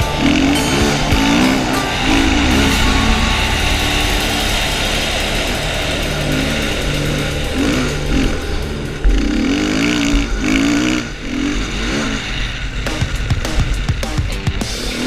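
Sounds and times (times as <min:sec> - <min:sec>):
music playing: 0:00.0 - 0:10.8, 0:12.9 - 0:15.0
dirt bike engine revving: 0:00.0 - 0:15.0.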